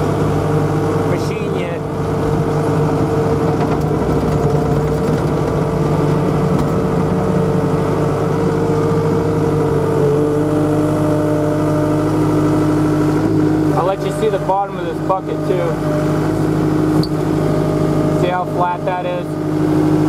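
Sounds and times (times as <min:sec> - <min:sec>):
diesel engine running under load: 0:00.0 - 0:20.0
steady machine whine: 0:00.0 - 0:20.0.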